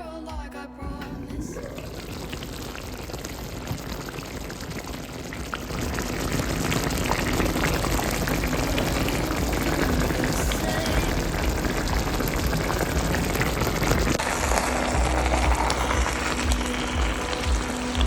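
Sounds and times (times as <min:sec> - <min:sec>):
liquid boiling and bubbling: 0:01.1 - 0:18.0.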